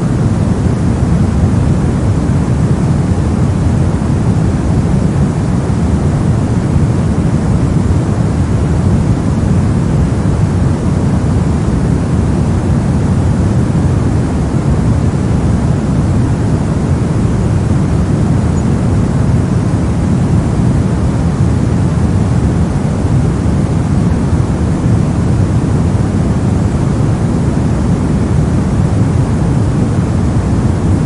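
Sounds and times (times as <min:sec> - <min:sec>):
brown noise hiss: 0:00.0 - 0:31.0.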